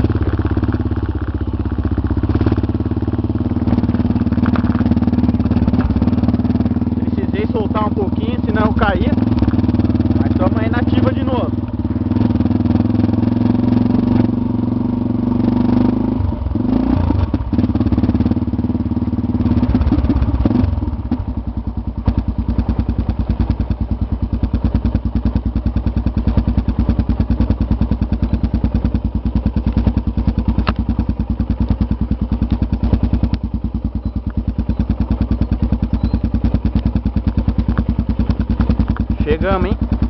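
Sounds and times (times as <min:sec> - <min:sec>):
motorcycle engine: 0:00.0 - 0:40.0.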